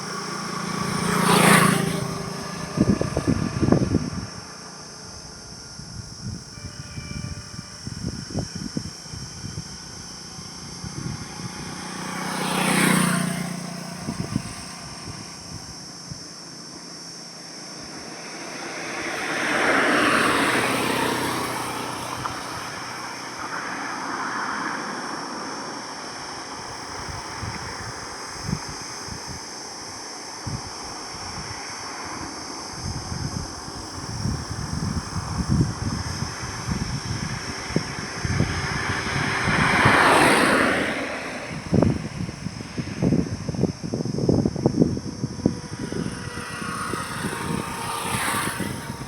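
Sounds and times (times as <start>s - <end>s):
steady road hum: 0.0s - 49.0s
vehicles passing by: 0.0s - 49.0s.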